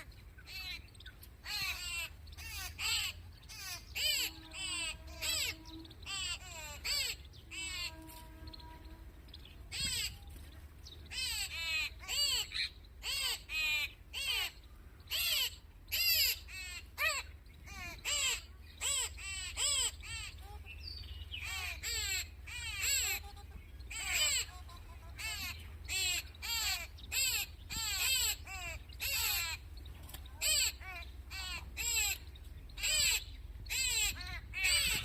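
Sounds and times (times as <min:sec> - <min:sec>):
birds cawing: 0:00.0 - 0:08.8, 0:11.1 - 0:35.0.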